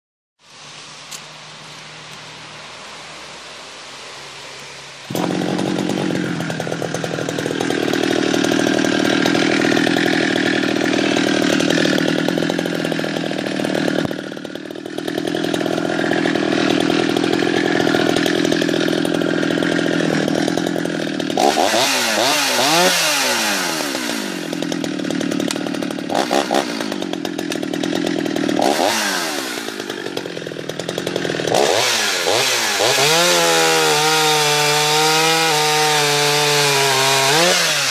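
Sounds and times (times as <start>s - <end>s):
chainsaw engine running: 5.0s - 37.9s.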